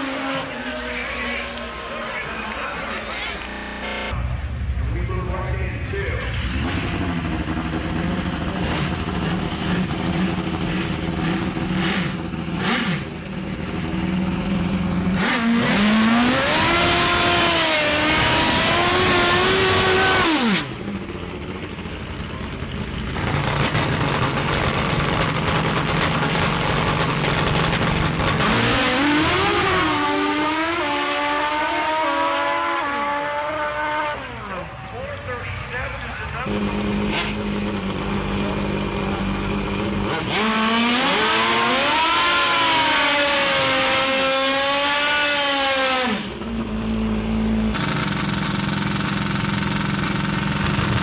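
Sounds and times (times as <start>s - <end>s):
drag motorcycle engine revving: 0.0s - 51.0s.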